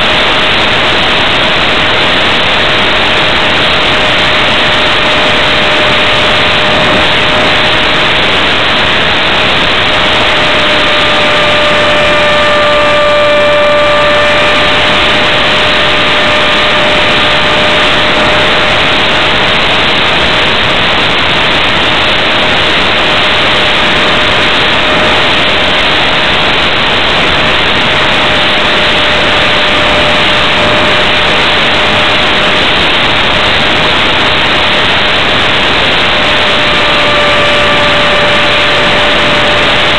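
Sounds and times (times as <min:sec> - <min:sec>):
electric motor and propeller whine: 0:00.0 - 0:39.9
wind rush over microphone: 0:00.0 - 0:39.9.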